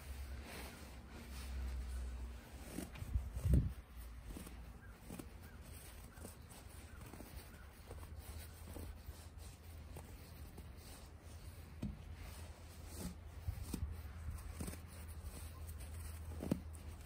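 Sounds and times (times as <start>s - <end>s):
hands crunching snow: 0.0s - 17.0s.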